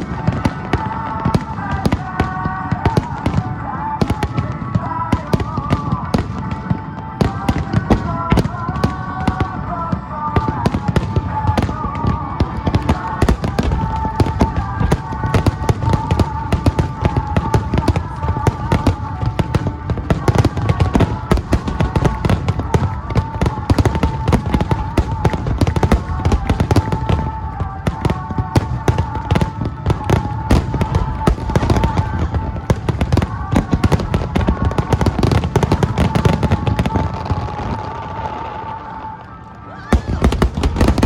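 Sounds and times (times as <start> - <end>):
fireworks bursts and crackling: 0.0 - 41.0.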